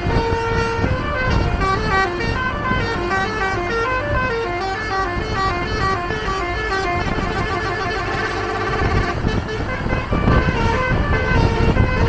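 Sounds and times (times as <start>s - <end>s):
musical air horn melody: 0.0s - 12.0s
road and engine rumble: 0.0s - 12.0s.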